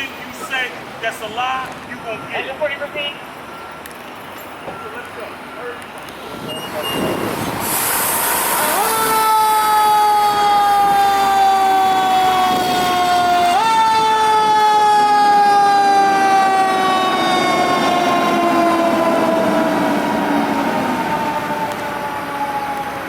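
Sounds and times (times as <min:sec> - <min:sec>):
fire engine siren wailing: 0:02.0 - 0:23.0.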